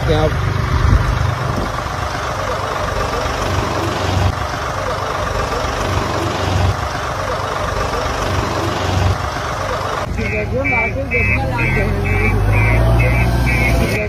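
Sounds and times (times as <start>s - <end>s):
outdoor noise rushing: 0.0s - 14.0s
vehicle engine idling: 0.0s - 14.0s.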